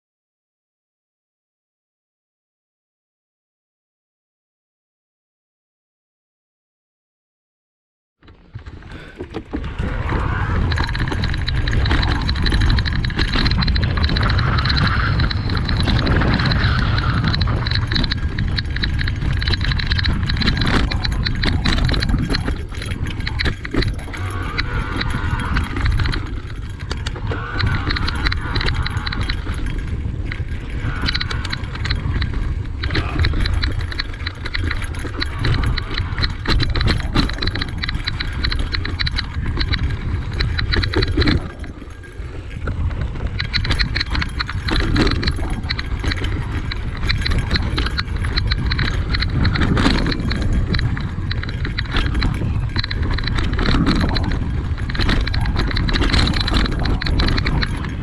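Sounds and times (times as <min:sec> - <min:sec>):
bike chain and frame rattling: 0:08.2 - 0:58.0
tyres crunching over dirt: 0:08.2 - 0:58.0
steady low rumble: 0:08.7 - 0:58.0.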